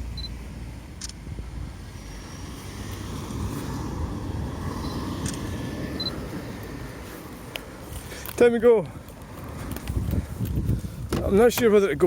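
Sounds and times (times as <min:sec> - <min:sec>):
vehicle passing: 0:00.0 - 0:10.9
road traffic: 0:00.0 - 0:12.0.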